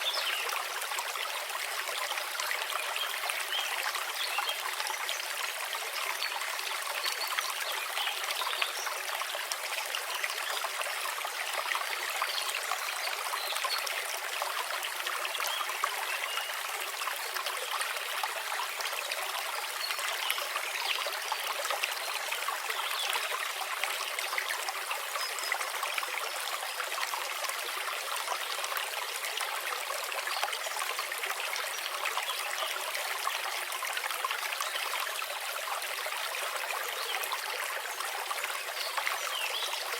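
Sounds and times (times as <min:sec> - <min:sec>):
brook water trickling: 0:00.0 - 0:39.9.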